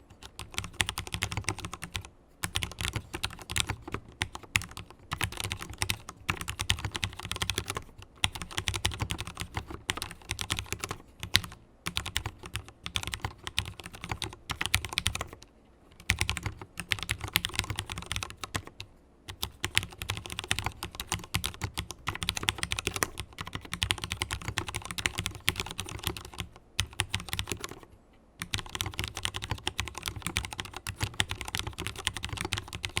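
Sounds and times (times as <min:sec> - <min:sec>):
fast mechanical keyboard typing: 0:00.0 - 0:33.0.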